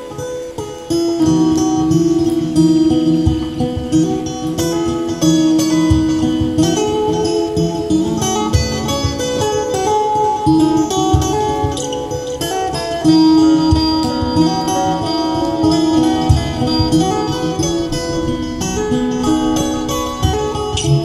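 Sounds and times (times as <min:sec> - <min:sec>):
fingerpicked acoustic guitar: 0:00.0 - 0:21.0
looped guitar layers: 0:00.0 - 0:21.0.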